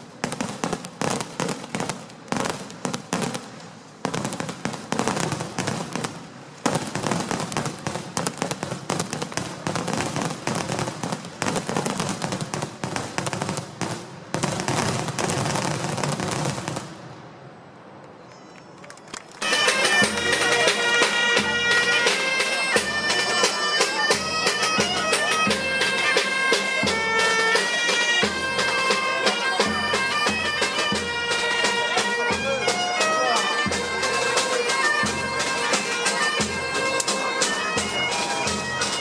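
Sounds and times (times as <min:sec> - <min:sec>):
fireworks bangs and crackles: 0:00.0 - 0:18.1, 0:19.4 - 0:39.0.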